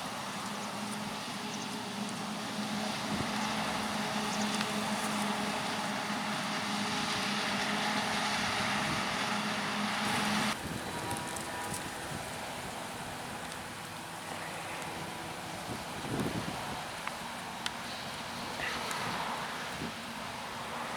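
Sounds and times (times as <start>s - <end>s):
diesel machinery running: 0.0s - 20.9s
quieter engine: 0.0s - 20.9s.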